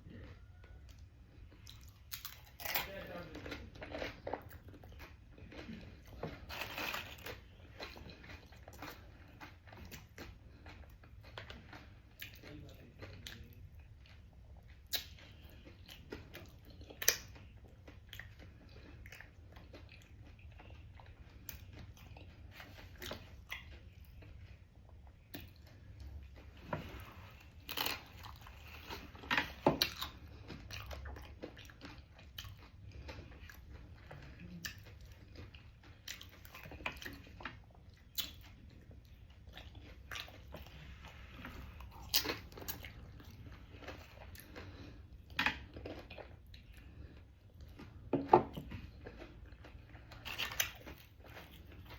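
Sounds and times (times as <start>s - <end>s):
person chewing and crunching food: 0.0s - 51.9s.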